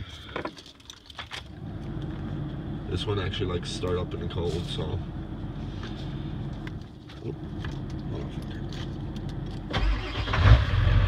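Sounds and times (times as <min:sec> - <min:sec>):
diesel engine cranking and idling: 0:00.0 - 0:11.0.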